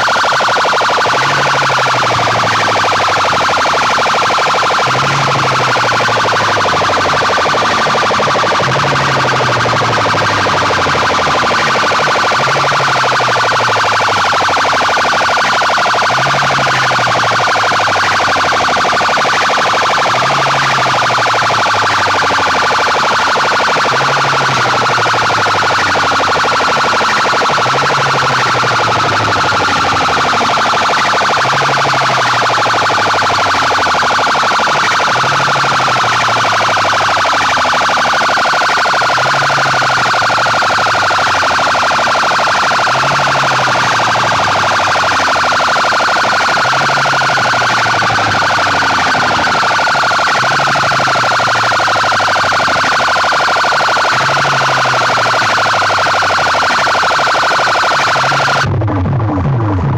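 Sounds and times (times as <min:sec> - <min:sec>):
distorted loudspeaker blaring: 0:00.0 - 0:59.9.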